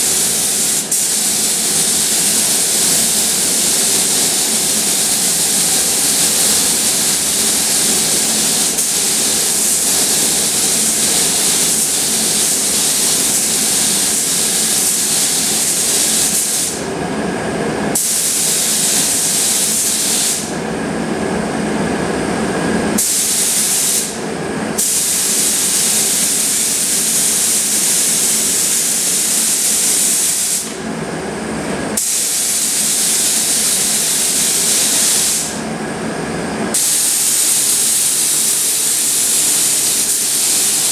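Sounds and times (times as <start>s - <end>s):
spray gun hissing: 0.0s - 16.9s, 18.0s - 20.5s, 23.0s - 24.2s, 24.8s - 30.8s, 32.0s - 35.6s, 36.7s - 40.9s.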